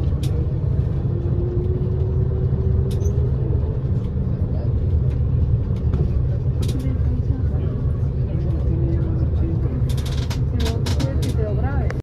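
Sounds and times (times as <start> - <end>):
coach engine rumble: 0.0 - 12.0.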